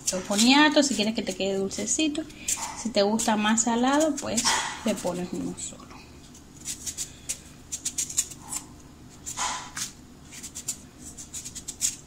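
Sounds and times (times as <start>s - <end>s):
blade scraping sweet potato skin: 0.0s - 5.4s, 6.3s - 12.0s.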